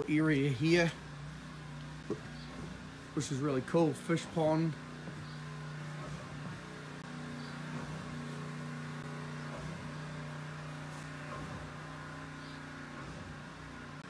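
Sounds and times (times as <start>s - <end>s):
pressure washer running: 0.0s - 14.0s.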